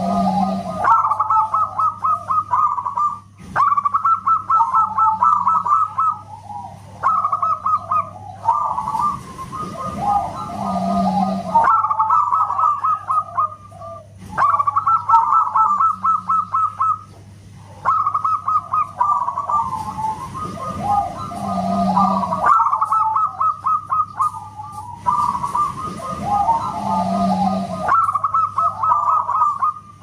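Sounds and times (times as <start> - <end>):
dove cooing: 0.0 - 30.0
faint low hum: 0.0 - 30.0.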